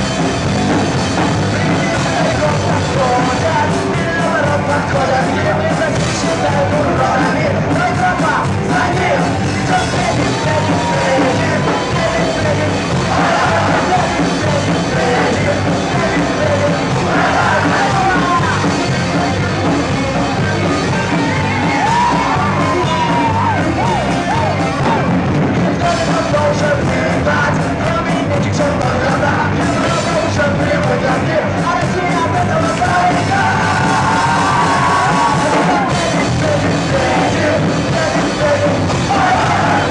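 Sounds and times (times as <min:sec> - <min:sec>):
live rock band playing: 0:00.0 - 0:39.9
person shouting and singing: 0:00.9 - 0:39.9.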